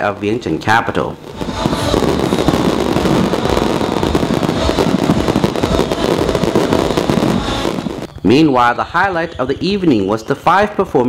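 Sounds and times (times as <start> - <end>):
fireworks bangs and crackles: 0.0 - 10.7.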